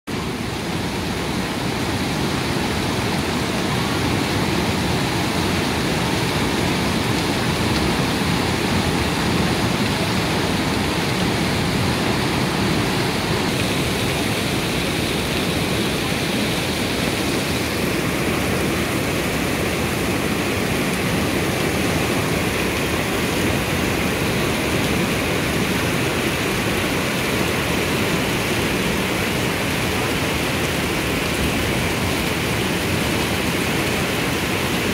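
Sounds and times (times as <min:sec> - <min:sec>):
stream rushing in torrent: 0:00.1 - 0:34.9.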